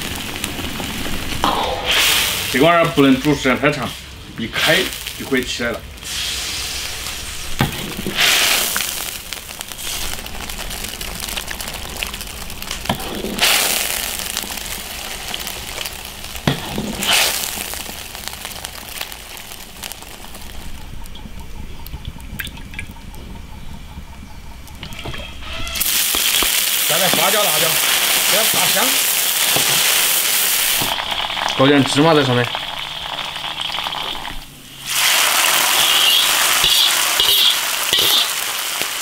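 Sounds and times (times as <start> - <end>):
broth bubbling in a wok: 0.0 - 39.0.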